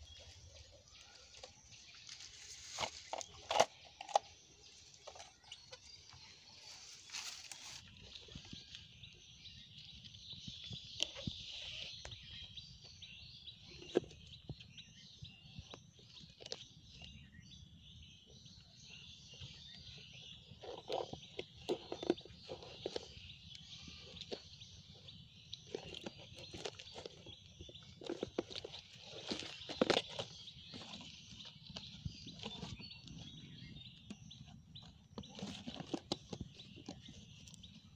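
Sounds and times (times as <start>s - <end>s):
birds chirping: 0.0s - 37.9s.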